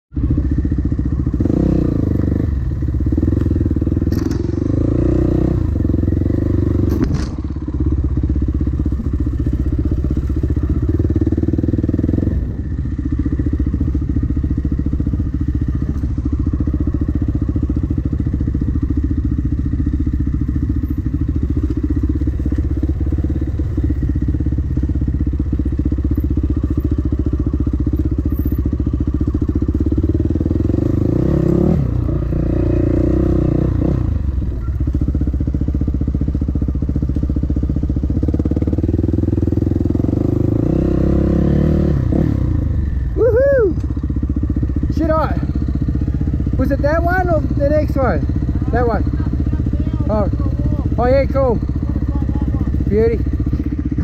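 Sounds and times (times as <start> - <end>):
dirt bike engine running: 0.1 - 54.0.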